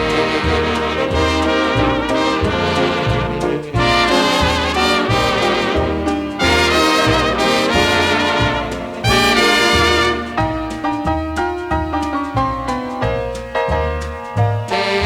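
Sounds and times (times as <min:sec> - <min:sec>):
pulsing bass beat: 0:00.0 - 0:15.0
trumpets and trombones melody: 0:00.0 - 0:15.0.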